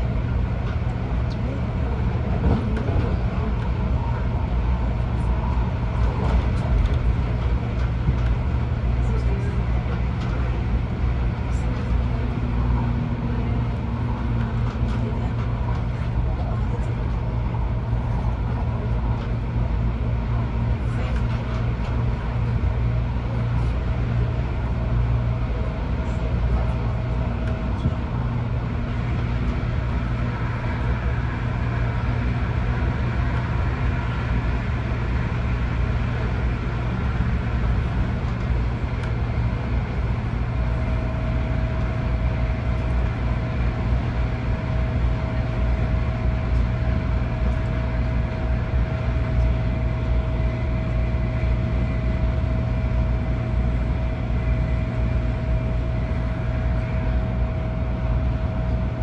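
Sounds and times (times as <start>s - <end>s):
steady whine: 0.0s - 59.0s
train wheels rumbling on rail: 0.0s - 59.0s.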